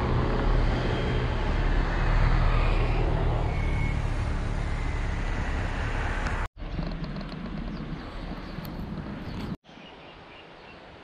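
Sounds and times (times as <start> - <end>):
cars passing rumble: 0.0 - 9.6.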